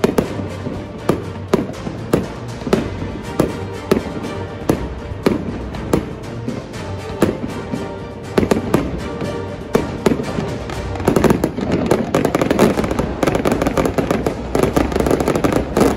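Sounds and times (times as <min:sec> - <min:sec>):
background music sustained tones: 0:00.0 - 0:15.9
fireworks bangs: 0:00.0 - 0:15.9.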